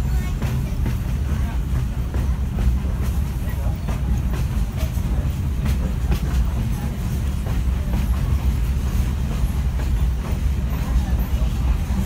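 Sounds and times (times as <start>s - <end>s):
railcar rumbling on track: 0.0s - 12.0s
wheels clicking over rail joints: 0.0s - 12.0s.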